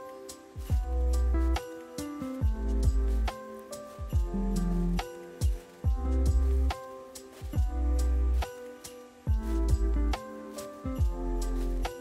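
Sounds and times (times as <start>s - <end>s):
music with deep bass and beat: 0.0s - 12.0s.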